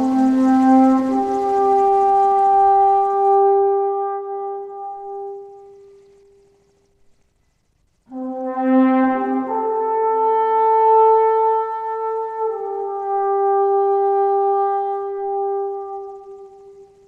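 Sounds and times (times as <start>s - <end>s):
horns playing slow chords: 0.0s - 6.8s, 8.1s - 17.0s.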